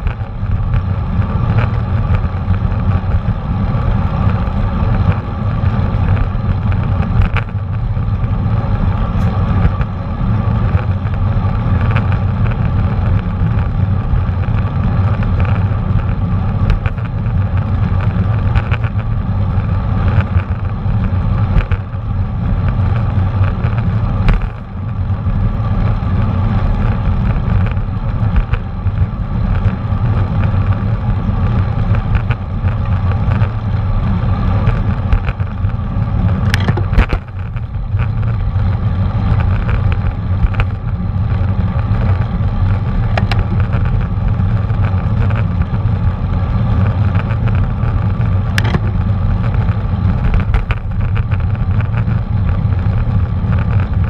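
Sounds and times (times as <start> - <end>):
bicycle tyre and road noise: 0.0 - 54.0.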